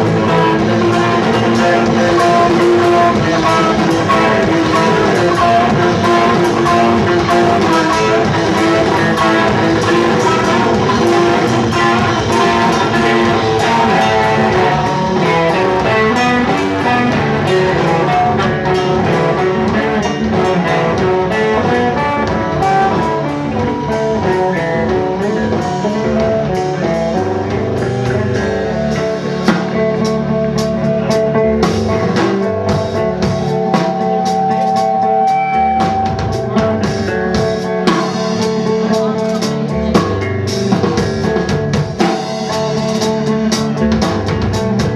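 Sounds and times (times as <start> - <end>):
bass guitar: 0.0 - 44.9
drum kit with cymbals: 0.0 - 44.9
electric guitar: 0.0 - 44.9.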